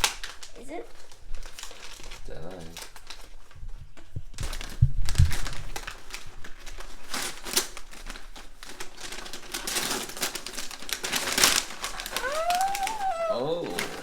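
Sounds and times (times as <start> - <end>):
wrapping paper tearing and rustling: 0.0 - 3.6, 4.4 - 14.0.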